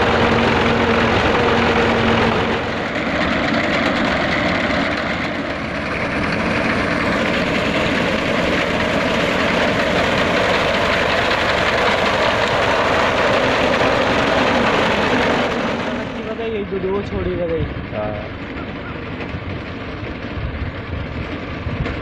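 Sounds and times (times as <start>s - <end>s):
reaper mechanical noise: 0.0s - 21.9s
tractor engine running: 0.0s - 22.0s.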